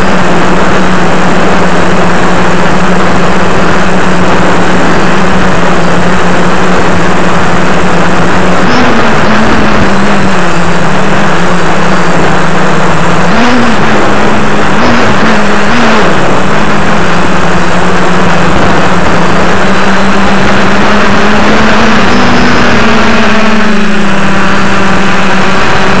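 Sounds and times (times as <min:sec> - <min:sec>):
drone motors and propellers buzzing: 0:00.0 - 0:26.0
rushing noise: 0:00.0 - 0:26.0.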